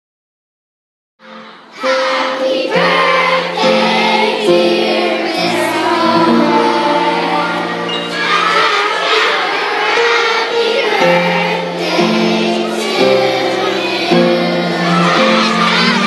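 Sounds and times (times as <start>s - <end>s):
children singing together: 1.2s - 16.0s
low musical accompaniment: 2.0s - 16.0s.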